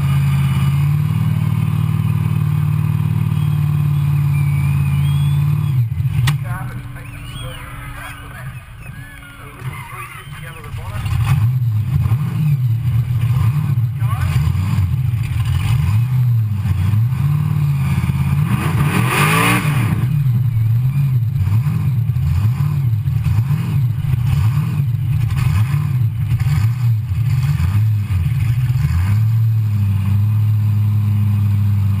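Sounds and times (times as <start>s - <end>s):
big engine idling roughly: 0.0s - 18.4s, 20.1s - 32.0s.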